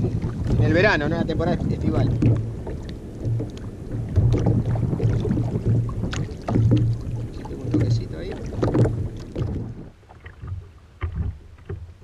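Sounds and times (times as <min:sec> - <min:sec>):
waves slapping plastic kayak hull: 0:00.0 - 0:12.0.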